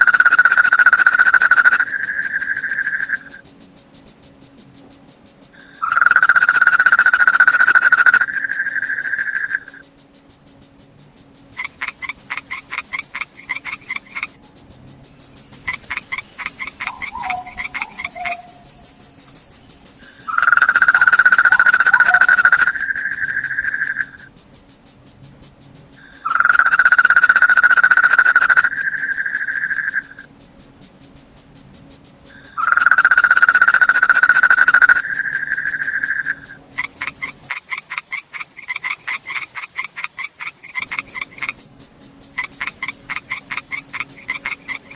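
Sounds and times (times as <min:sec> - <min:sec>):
crickets chirping: 0:00.0 - 0:37.6, 0:40.8 - 0:44.9
lower louder insect call: 0:00.0 - 0:37.6, 0:40.7 - 0:44.9.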